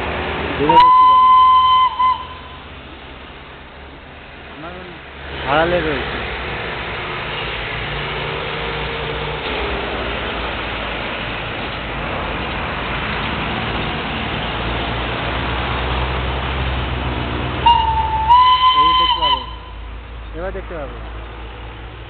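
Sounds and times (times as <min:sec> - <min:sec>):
low engine hum: 0:00.0 - 0:22.0
train rumbling: 0:00.0 - 0:22.0.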